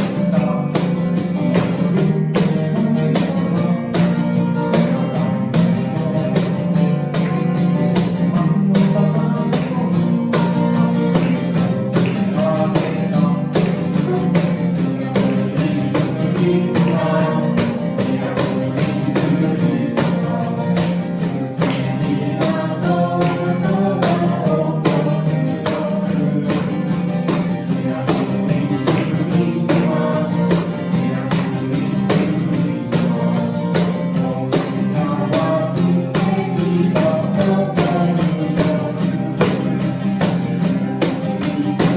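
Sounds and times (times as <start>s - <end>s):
person singing: 0.0s - 7.3s, 8.0s - 40.3s, 41.0s - 41.9s
acoustic guitar strumming: 0.0s - 41.9s.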